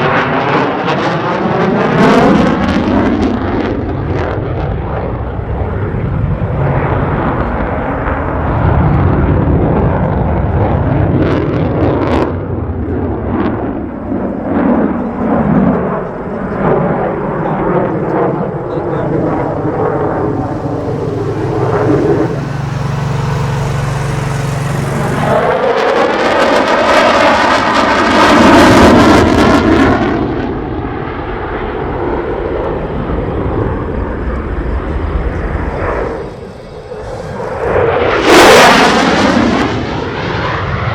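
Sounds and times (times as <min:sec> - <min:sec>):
jet engine rumbling: 0:00.0 - 0:40.9.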